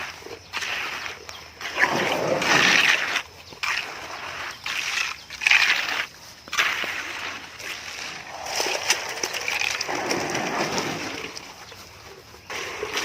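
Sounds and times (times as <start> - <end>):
wet concrete scraping and sloshing: 0.0 - 13.0.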